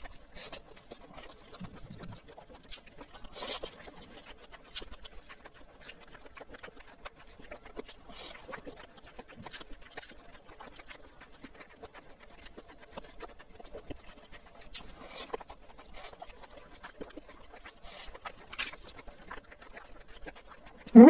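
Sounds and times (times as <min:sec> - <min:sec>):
wet chewing and lip smacks: 0:00.0 - 0:21.0.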